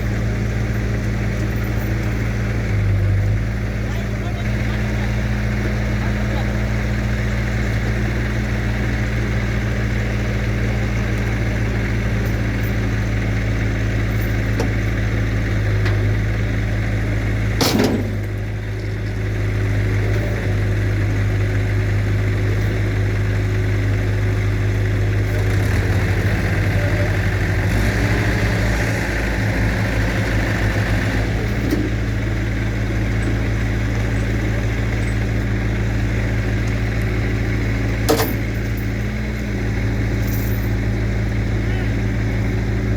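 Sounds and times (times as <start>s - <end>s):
heavy vehicle engine idling: 0.0s - 42.9s.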